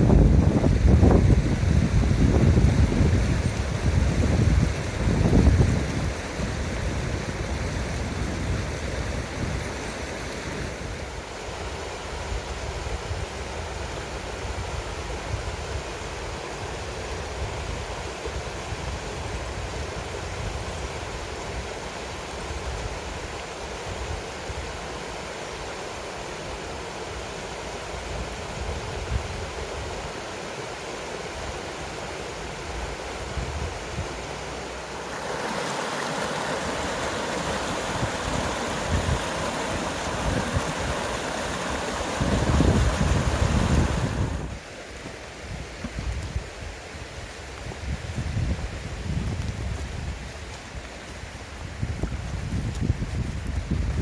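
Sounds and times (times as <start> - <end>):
mountain stream rushing: 0.0 - 53.0.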